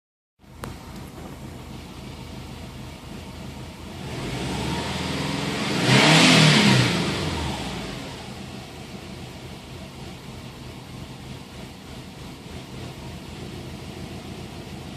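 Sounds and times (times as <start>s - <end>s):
car engine idling and revving: 0.4s - 14.9s.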